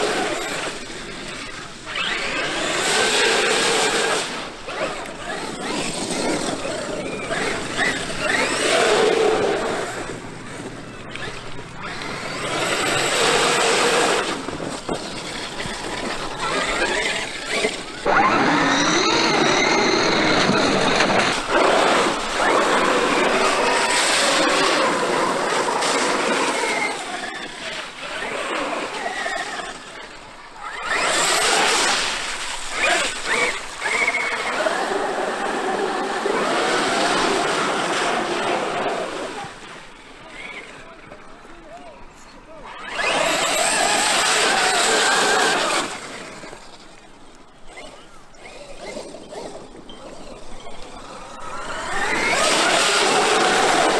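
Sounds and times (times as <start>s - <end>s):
electric motor whining: 0.0s - 41.0s, 42.8s - 53.9s
tyres rolling on ground: 0.0s - 53.9s.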